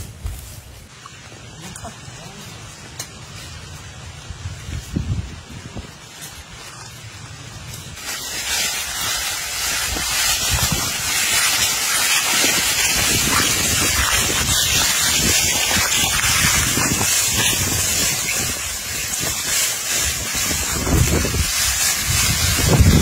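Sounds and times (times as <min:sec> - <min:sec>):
wind blowing across microphone: 0:02.2 - 0:23.0.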